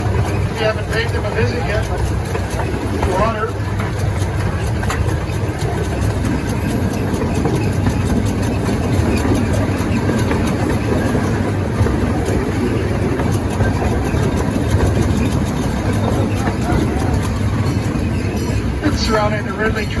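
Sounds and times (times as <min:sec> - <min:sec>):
train cars rattling: 0:00.0 - 0:20.0
train engine hum: 0:00.0 - 0:20.0.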